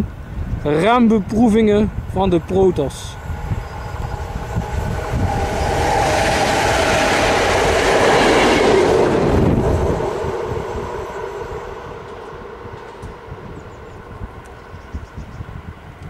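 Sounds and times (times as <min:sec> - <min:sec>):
train wheels rumbling on rails: 0:01.7 - 0:16.0.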